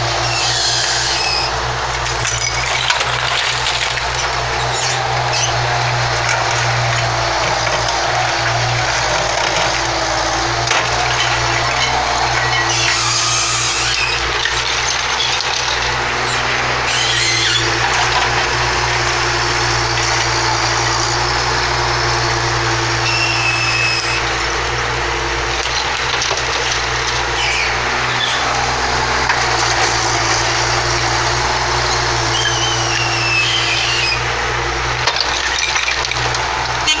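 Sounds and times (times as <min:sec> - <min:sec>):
buckets squealing on concrete: 0:00.0 - 0:37.0
excavator diesel engines: 0:00.0 - 0:37.0
rubble cracking and clattering: 0:00.2 - 0:31.1, 0:34.8 - 0:37.0.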